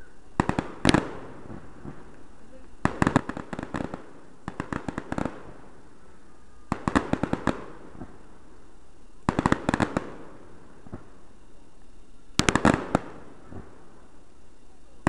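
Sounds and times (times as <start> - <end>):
fireworks cracking: 0.0 - 15.0.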